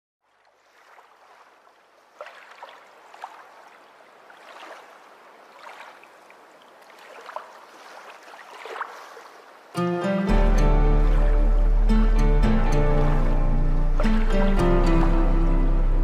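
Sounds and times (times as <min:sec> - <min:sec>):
water lapping and splashing: 0:00.2 - 0:16.0.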